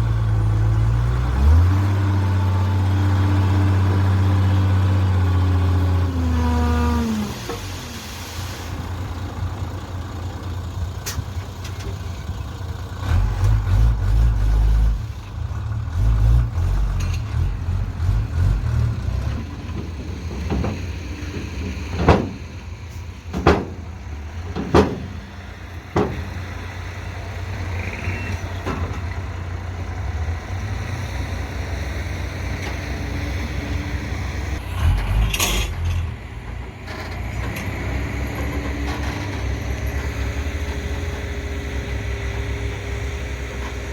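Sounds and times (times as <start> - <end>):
backhoe diesel engine revving: 0.0 - 43.9.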